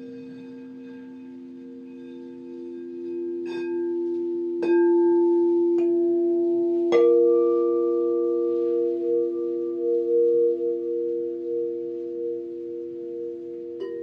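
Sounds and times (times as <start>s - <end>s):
crystal singing bowls ringing: 0.0s - 14.0s
singing bowl strikes: 0.0s - 14.0s.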